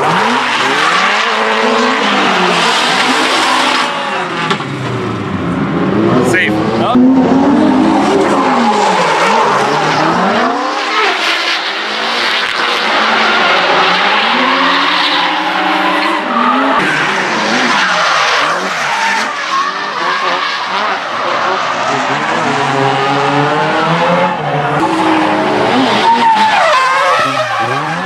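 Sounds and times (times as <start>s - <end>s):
car engines revving: 0.0s - 28.0s
tires skidding: 0.0s - 28.0s.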